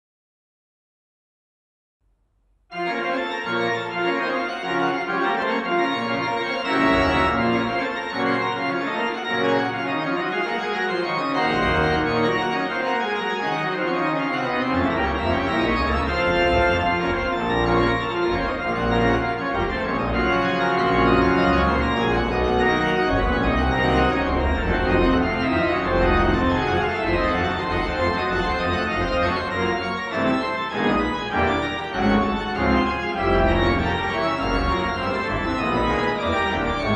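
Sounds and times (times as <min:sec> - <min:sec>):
church organ toccata: 0:02.7 - 0:36.9
deep organ pedal bass: 0:04.6 - 0:36.9.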